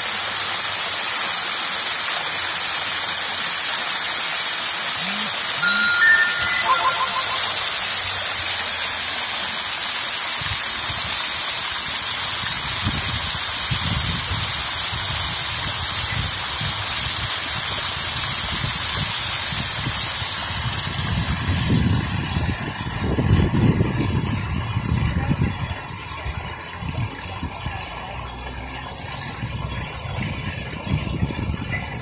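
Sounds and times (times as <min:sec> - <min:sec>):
fountain water splashing: 0:00.0 - 0:32.0.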